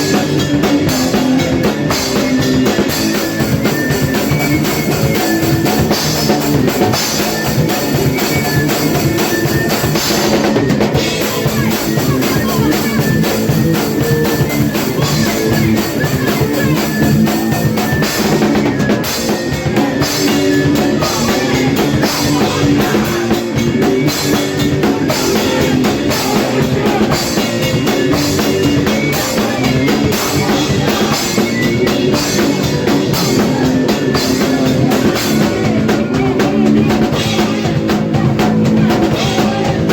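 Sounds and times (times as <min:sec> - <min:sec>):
hardcore punk band playing: 0:00.0 - 0:39.9.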